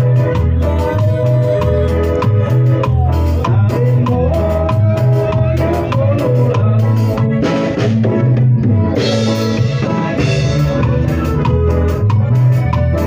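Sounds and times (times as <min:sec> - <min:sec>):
live band playing cumbia: 0:00.0 - 0:13.0.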